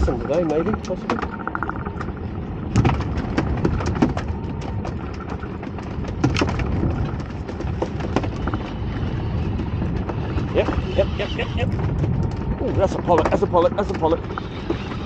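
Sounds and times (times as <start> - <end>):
wind and water rumbling: 0.0 - 15.0.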